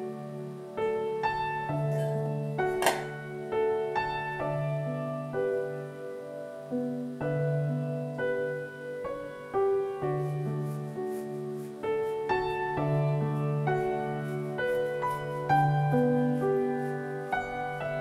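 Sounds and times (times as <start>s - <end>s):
gentle solo piano melody: 0.0s - 18.0s.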